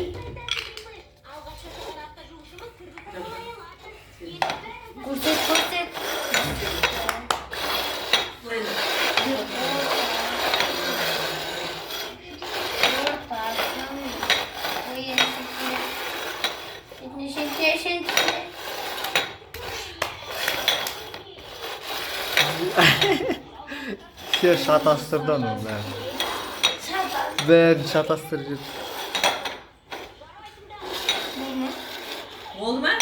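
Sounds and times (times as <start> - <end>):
cups clattering and scraping on table: 0.0 - 33.0.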